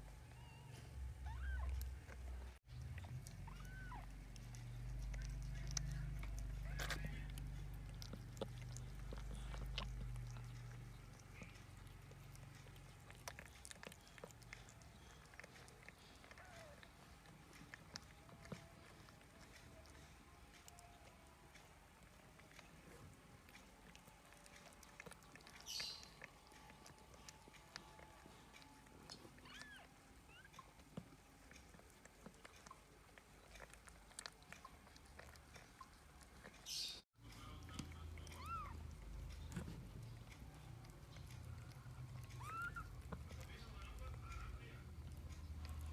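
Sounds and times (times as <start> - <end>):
cat licking and chewing: 0.0 - 45.9.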